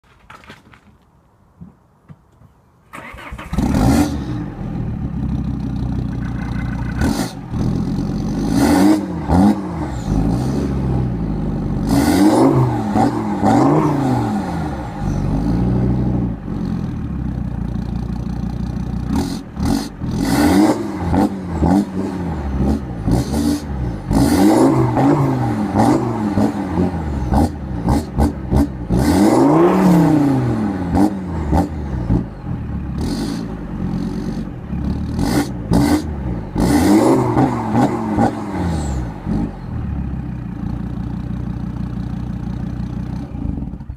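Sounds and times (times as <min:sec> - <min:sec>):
car engine idling and revving: 0:03.0 - 0:43.9.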